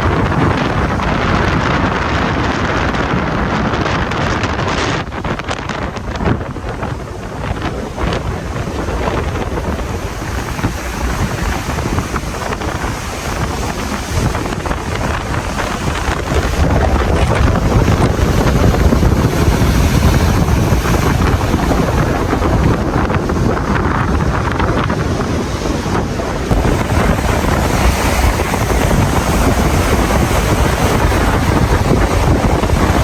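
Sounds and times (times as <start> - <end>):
rough sea rushing: 0.0 - 33.0
wind buffeting microphone: 0.0 - 33.0.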